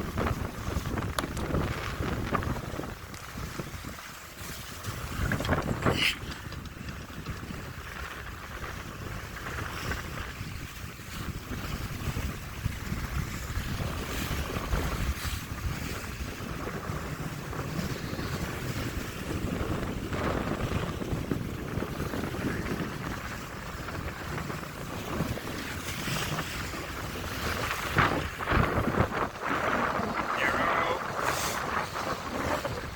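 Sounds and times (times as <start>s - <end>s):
water washing along hull: 0.0s - 32.9s
wind buffeting microphone: 0.0s - 32.9s.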